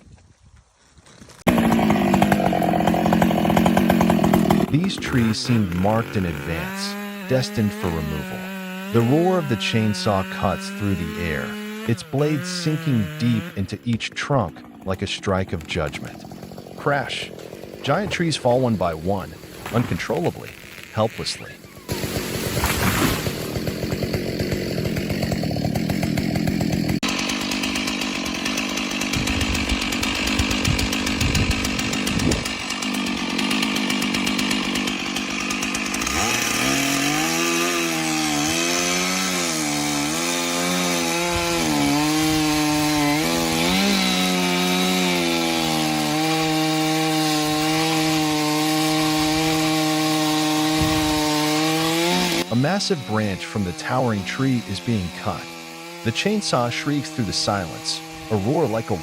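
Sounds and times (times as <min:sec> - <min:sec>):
chainsaw cutting wood: 0:01.0 - 0:59.0.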